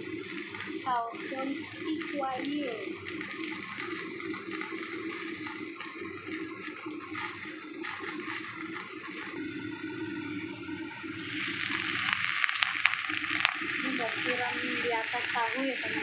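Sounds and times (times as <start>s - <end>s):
oil sizzling in a wok: 0.0s - 10.4s, 11.0s - 16.0s
kitchen background hum: 0.0s - 16.0s.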